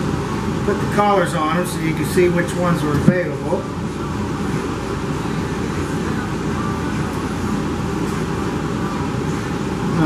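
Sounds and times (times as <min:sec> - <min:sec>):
ventilation system hum: 0:00.0 - 0:10.0.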